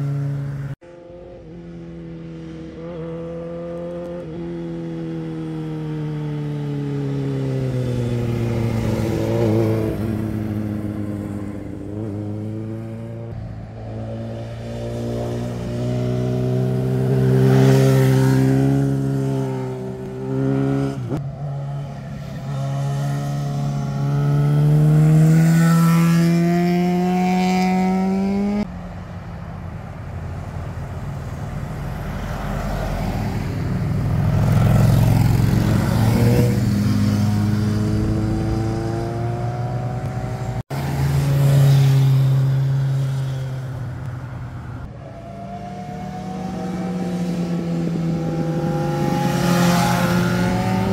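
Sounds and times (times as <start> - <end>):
motorcycles accelerating past: 0.0 - 28.7, 31.9 - 43.8, 44.8 - 50.9.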